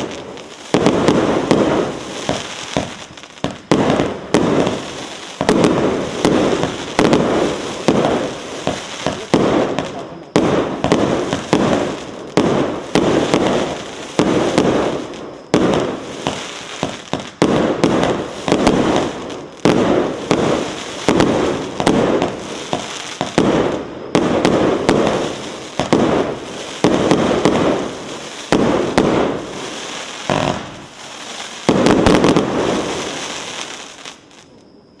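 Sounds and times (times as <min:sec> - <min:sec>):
fireworks bangs with crackling: 0:00.0 - 0:35.0.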